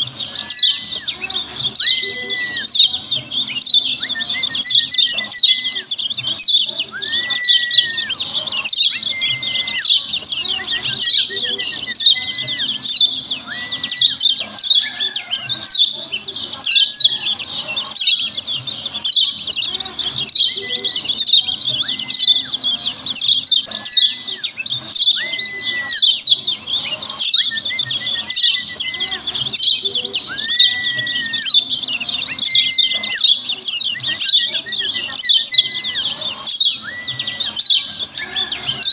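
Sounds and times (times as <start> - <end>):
thin whistled bird notes: 0.0 - 10.0, 10.6 - 15.4, 20.2 - 38.9
bird chattering call: 0.0 - 38.9.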